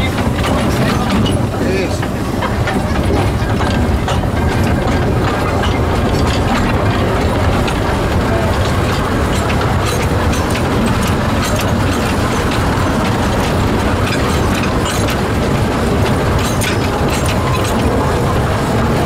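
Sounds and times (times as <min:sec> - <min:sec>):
running gear clicks and clanks: 0:00.0 - 0:19.0
steam locomotive running: 0:00.0 - 0:19.0.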